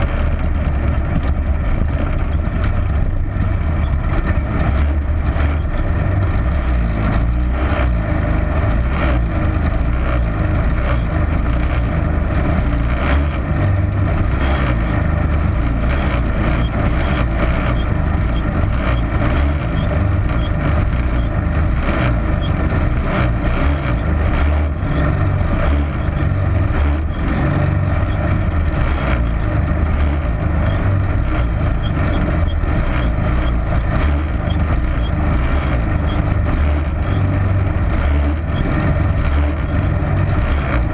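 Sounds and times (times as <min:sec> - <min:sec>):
kart engine idling: 0:00.0 - 0:40.9.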